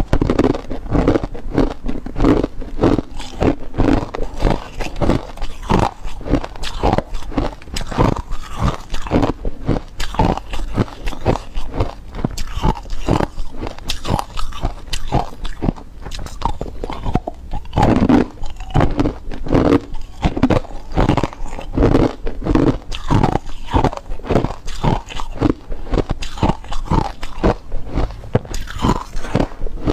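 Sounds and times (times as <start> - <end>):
person crunching ice cubes: 0.0 - 29.9.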